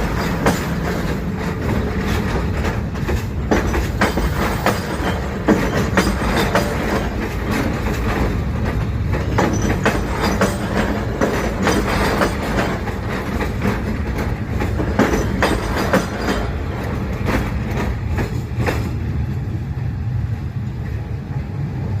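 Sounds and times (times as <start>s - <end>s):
wheels clacking over rail joints: 0.0s - 19.4s
train rumbling on track: 0.0s - 22.0s.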